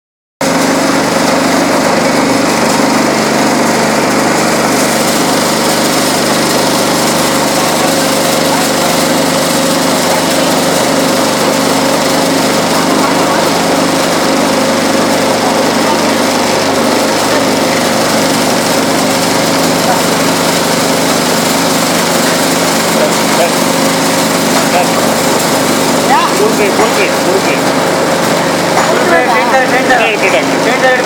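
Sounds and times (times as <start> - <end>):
grading machine droning: 0.4 - 31.0.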